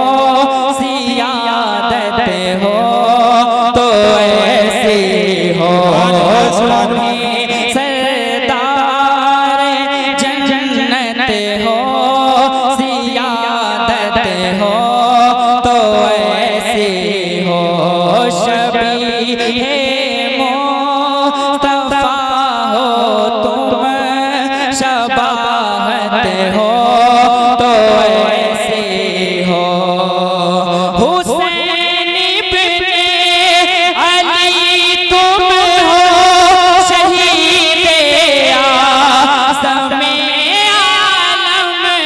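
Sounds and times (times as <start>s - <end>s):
person singing ornamented melody: 0.0s - 42.0s.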